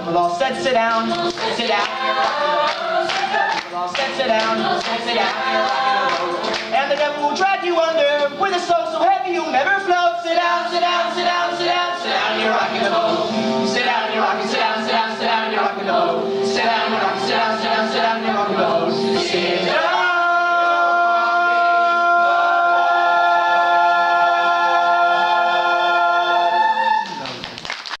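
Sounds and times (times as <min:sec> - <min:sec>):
teenage chorus singing: 0:00.5 - 0:07.0, 0:10.3 - 0:27.2.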